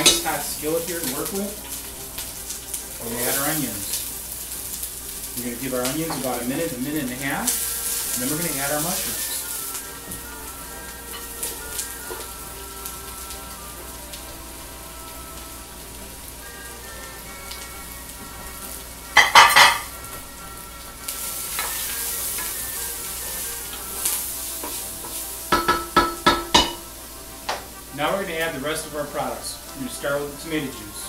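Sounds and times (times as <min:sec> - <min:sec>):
vegetables sizzling in a skillet: 0:00.0 - 0:31.0.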